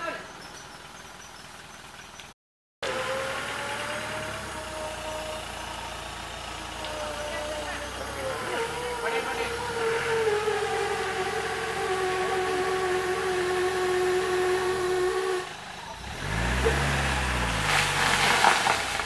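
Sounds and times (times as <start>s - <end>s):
engine pulling under load: 0.0s - 19.0s.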